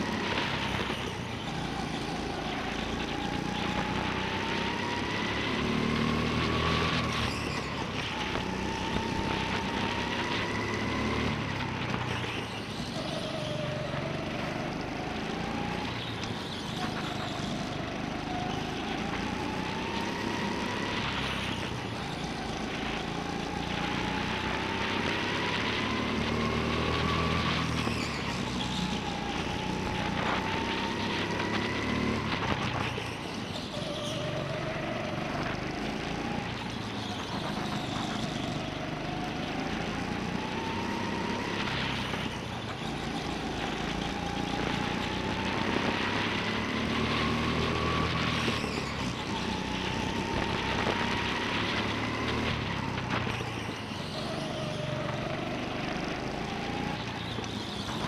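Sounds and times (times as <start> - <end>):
go-kart motor revving: 0.0 - 58.0
rumble and rushing noise: 0.0 - 58.0.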